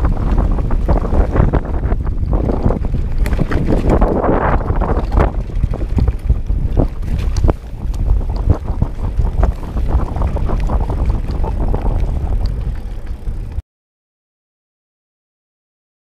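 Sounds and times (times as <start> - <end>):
mountain bike rattling on rough trail: 0.0 - 13.6
wind rumbling on microphone: 0.0 - 13.6.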